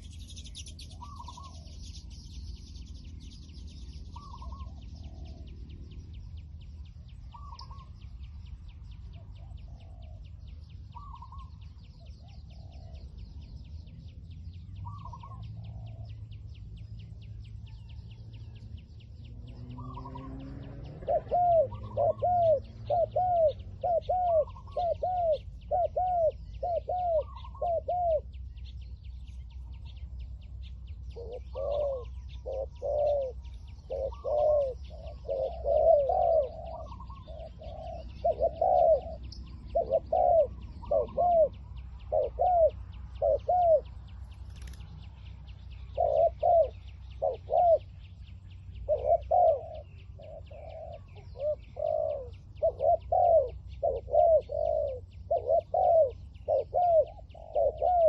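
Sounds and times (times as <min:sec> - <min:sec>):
distant dove cooing: 0:00.0 - 0:06.2, 0:08.7 - 0:13.6, 0:14.8 - 0:16.4, 0:17.4 - 0:28.8, 0:31.0 - 0:44.0, 0:44.6 - 0:58.0.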